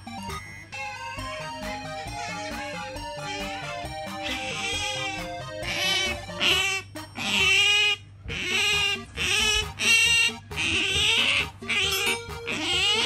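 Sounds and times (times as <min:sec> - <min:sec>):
otter squealing calls: 0:01.1 - 0:13.0.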